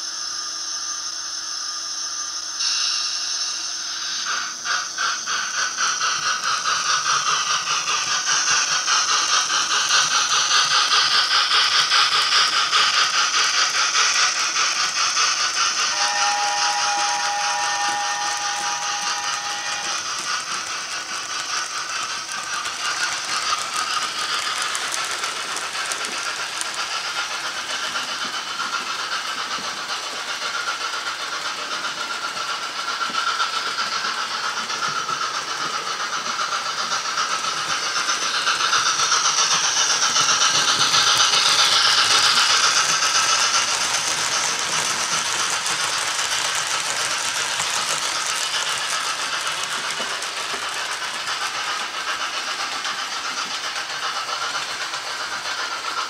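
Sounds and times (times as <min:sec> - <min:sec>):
steam engine sounds from small speaker: 0:00.0 - 0:56.0
model train wheels rattling: 0:04.2 - 0:56.0.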